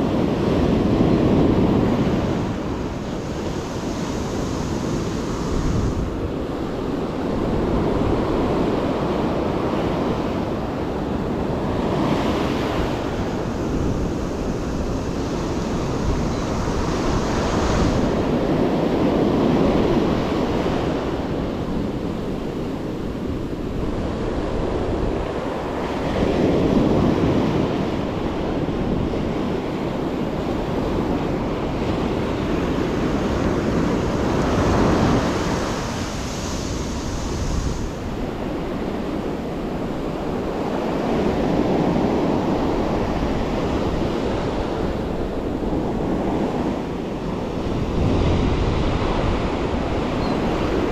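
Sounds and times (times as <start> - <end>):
ocean surf breaking on beach: 0.0 - 50.9.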